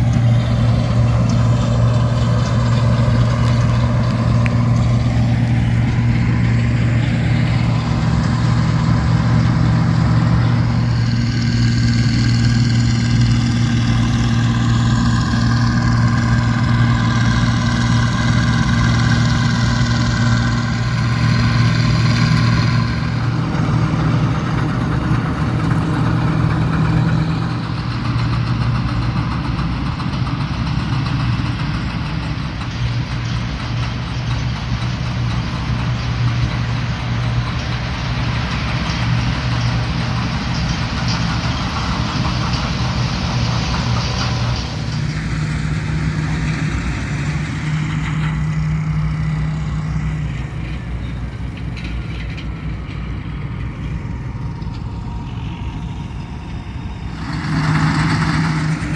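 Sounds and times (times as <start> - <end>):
combine harvester diesel engine: 0.0 - 58.9
machinery whine: 0.0 - 58.9.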